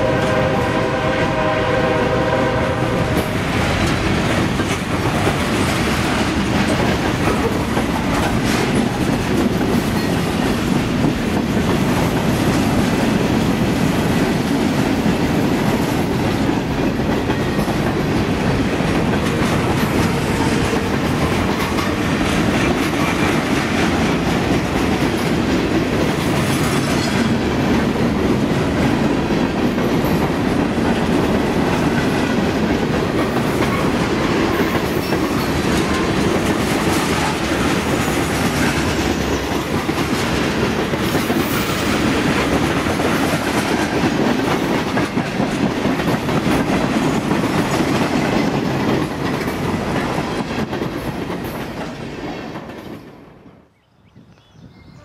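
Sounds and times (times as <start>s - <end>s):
train wheels clattering on rails: 0.0s - 53.6s.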